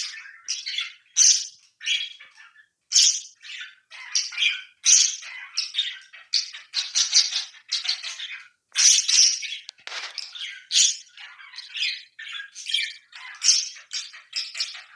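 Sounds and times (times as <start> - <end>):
parakeets chattering and squawking: 0.1 - 14.9.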